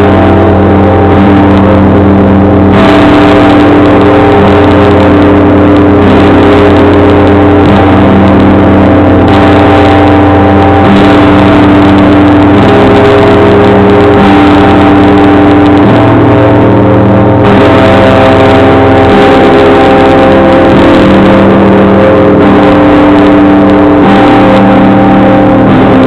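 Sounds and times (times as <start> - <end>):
church bells ringing: 0.0 - 26.0
deep great bell hum: 0.0 - 26.0.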